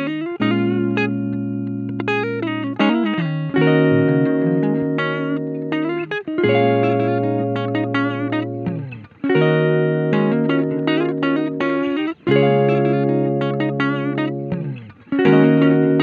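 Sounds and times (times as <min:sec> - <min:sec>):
guitar background music: 0:00.0 - 0:16.0.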